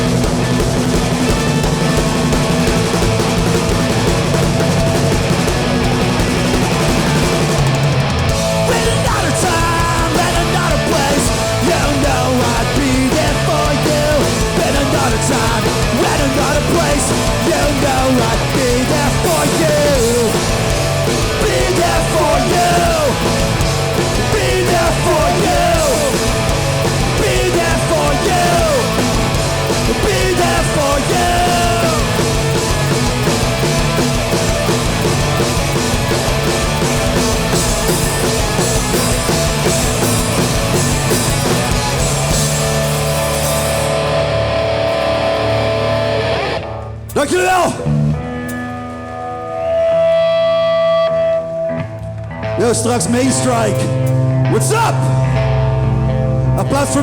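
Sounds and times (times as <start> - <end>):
punk band playing loud: 0.0 - 57.0.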